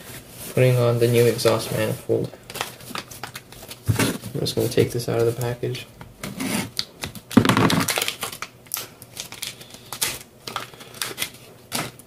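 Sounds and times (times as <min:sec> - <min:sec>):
plastic packaging crinkling: 0:00.4 - 0:05.4, 0:06.8 - 0:12.0.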